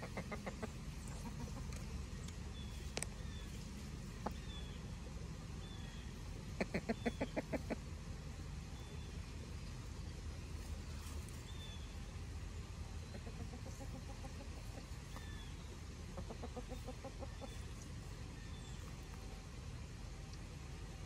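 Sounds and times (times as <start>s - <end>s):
chickens clucking: 0.0s - 8.4s, 9.6s - 19.5s
steady low rumble: 0.0s - 21.0s.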